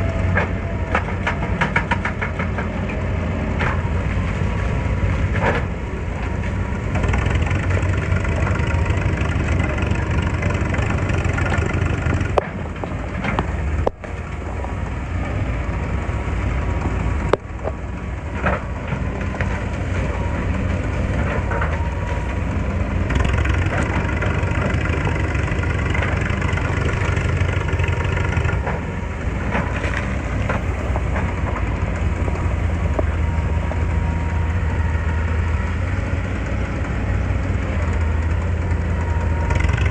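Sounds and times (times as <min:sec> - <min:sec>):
excavator diesel engine humming: 0:00.0 - 0:39.9.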